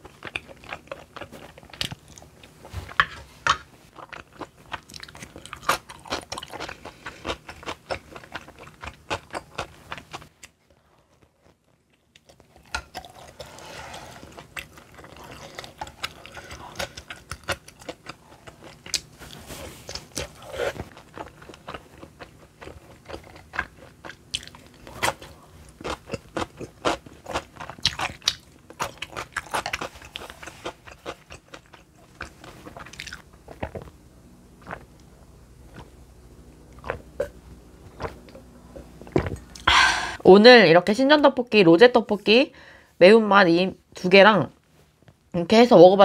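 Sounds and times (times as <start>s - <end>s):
chewing and biting food: 0.0s - 3.0s, 3.9s - 34.0s, 34.6s - 36.0s, 36.6s - 39.7s.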